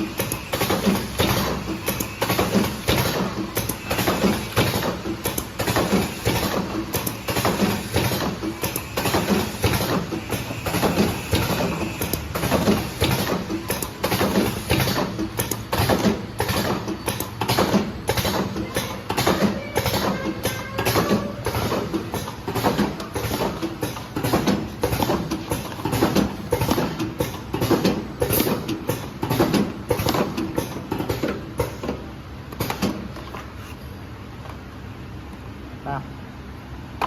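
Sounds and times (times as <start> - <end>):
machine clattering: 0.0 - 32.0.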